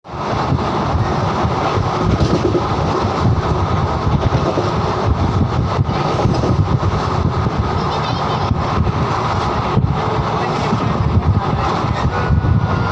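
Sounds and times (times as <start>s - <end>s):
train rumbling at speed: 0.0s - 12.9s.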